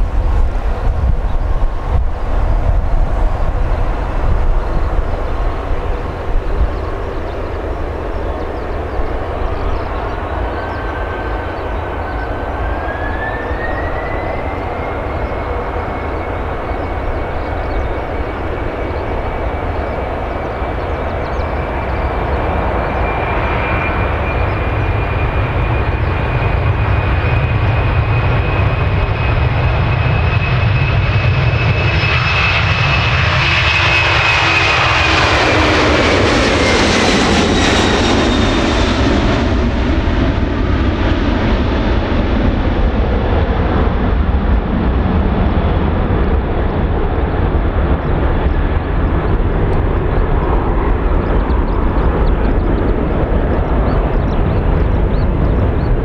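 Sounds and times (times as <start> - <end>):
jet airliner engines roaring: 0.0 - 56.0.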